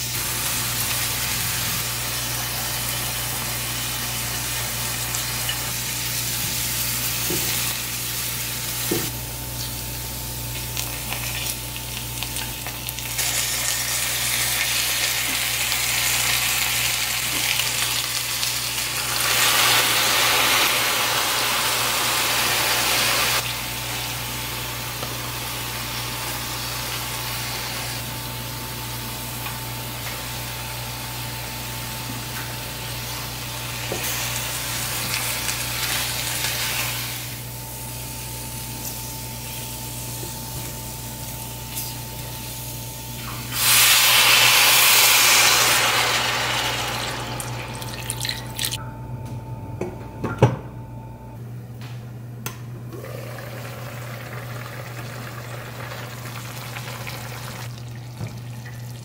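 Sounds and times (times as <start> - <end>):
chicken sizzling in a pan: 0.0 - 47.7.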